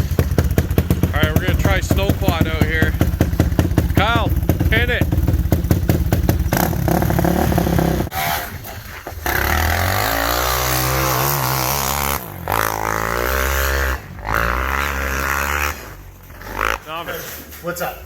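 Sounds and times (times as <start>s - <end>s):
quad bike engine revving: 0.0s - 17.2s.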